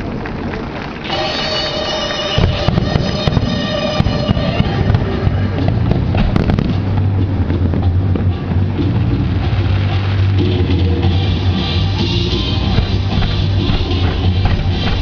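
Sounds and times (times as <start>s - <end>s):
fireworks bangs and crackling: 0.0s - 15.0s
music playing: 1.0s - 15.0s.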